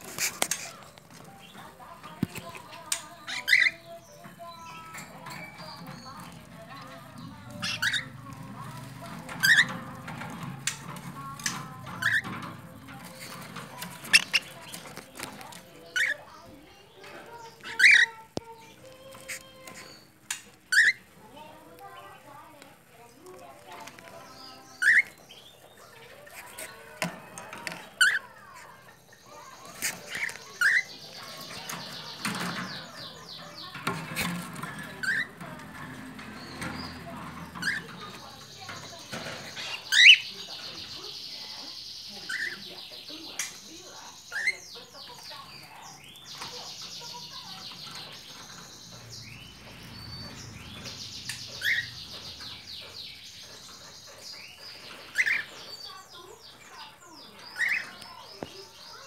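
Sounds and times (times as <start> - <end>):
cockatiels chirping and chattering: 0.0 - 59.0.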